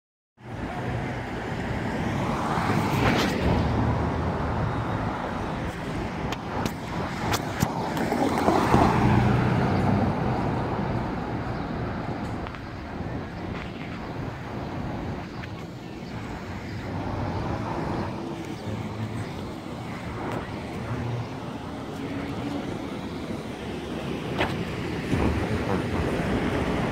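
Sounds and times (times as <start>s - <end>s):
cars driving past: 0.4s - 26.9s.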